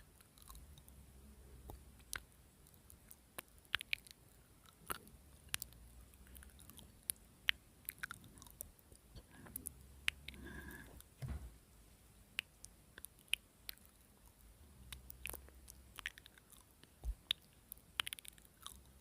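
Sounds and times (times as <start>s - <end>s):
mouth chewing crunchy food: 0.2s - 1.0s, 1.6s - 10.8s, 12.4s - 19.0s.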